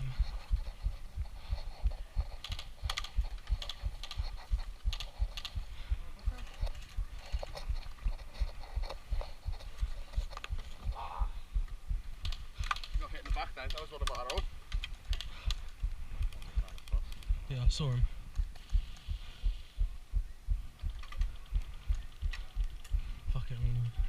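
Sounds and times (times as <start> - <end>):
rhythmic low thuds: 0.0 - 24.0
sharp clicks and rattles: 0.2 - 11.0, 12.1 - 19.1, 20.8 - 23.7.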